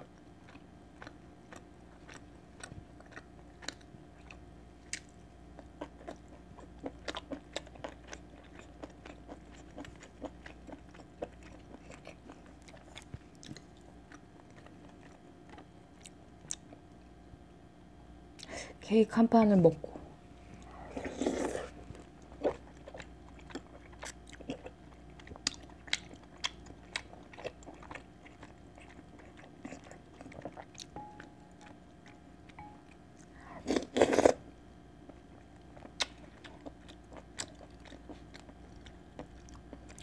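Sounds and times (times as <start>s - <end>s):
chewing food: 0.0s - 17.1s, 20.5s - 34.4s, 35.0s - 40.0s.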